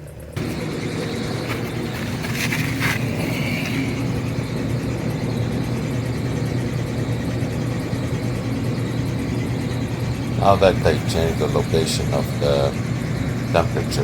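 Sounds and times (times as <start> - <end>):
air conditioning unit humming: 0.0 - 14.0.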